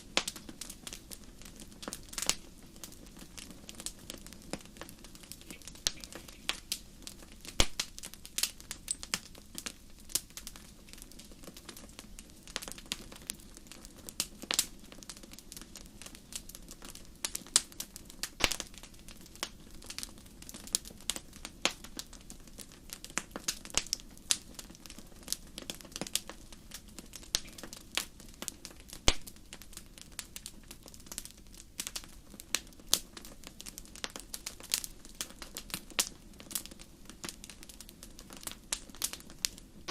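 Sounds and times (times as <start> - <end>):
low rush of burning: 0.0 - 39.9
wood fire crackling: 0.0 - 39.9.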